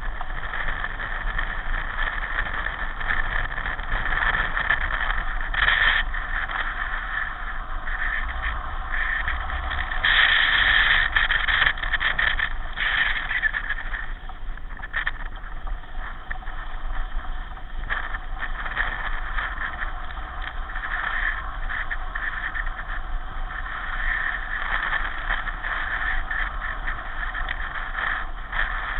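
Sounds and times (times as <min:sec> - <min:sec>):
pedal car rolling and rattling: 0:00.0 - 0:28.9.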